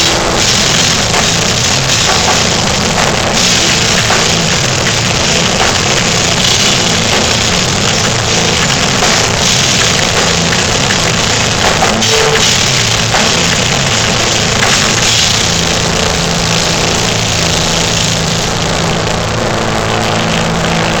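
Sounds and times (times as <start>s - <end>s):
distorted electric guitars: 0.0s - 21.0s
droning held chord: 0.0s - 21.0s
pounding drum kit: 0.0s - 21.0s.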